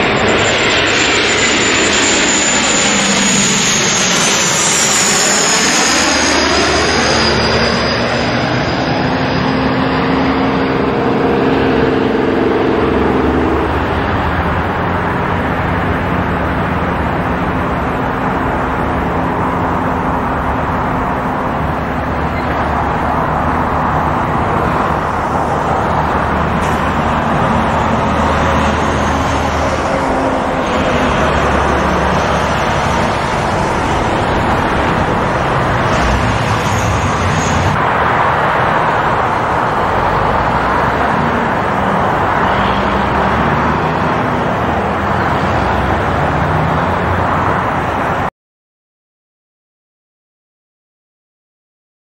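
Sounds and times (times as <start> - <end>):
turboprop engines roaring: 0.0 - 48.3.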